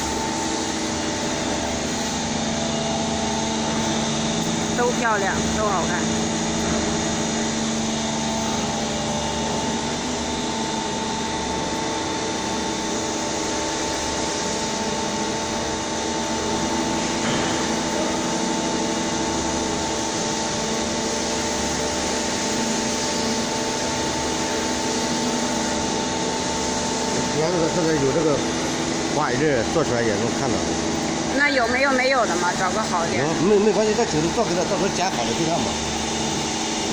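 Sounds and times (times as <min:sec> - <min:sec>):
machinery humming: 0:00.0 - 0:36.9.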